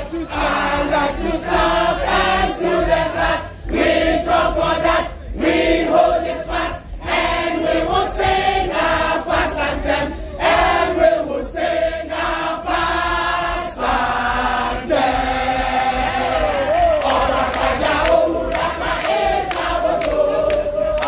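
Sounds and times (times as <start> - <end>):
choir singing together: 0.0 - 21.0.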